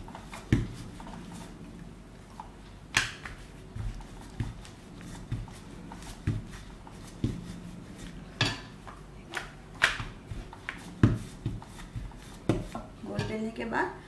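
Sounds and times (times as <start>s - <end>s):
dough swishing: 0.0s - 13.5s.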